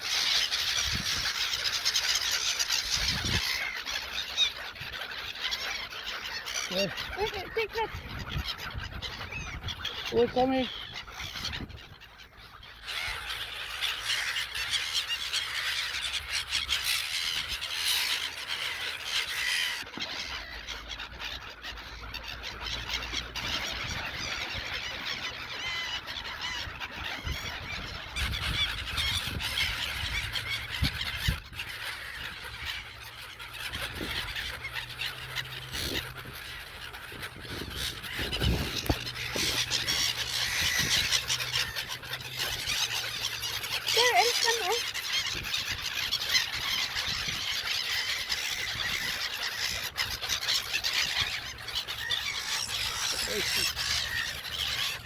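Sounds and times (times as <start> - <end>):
flock of gulls calling: 0.0 - 55.0.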